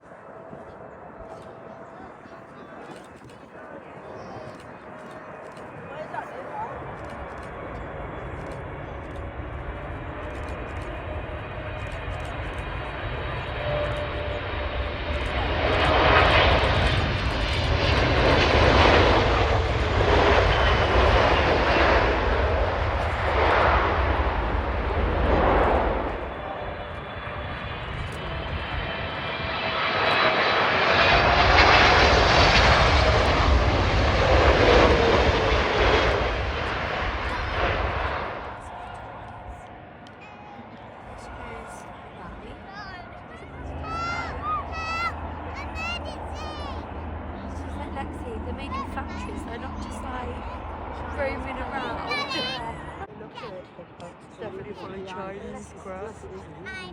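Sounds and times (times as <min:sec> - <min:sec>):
jet engine roar with whine: 0:00.0 - 0:56.9.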